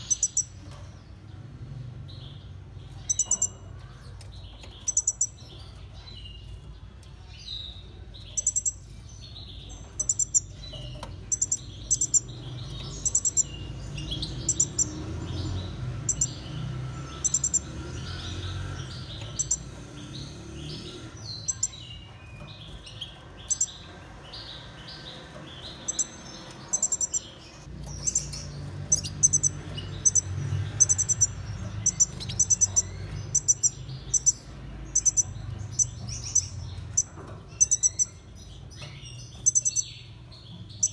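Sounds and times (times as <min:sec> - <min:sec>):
finches chirping and twittering: 0:00.0 - 0:40.9.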